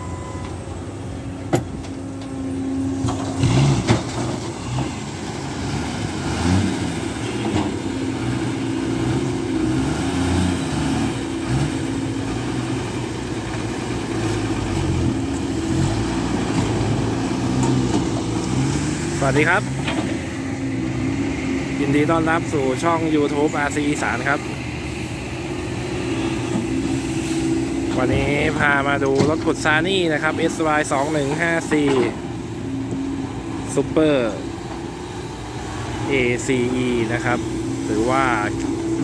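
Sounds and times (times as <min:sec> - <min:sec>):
heavy diesel machinery engine: 0:00.0 - 0:39.0.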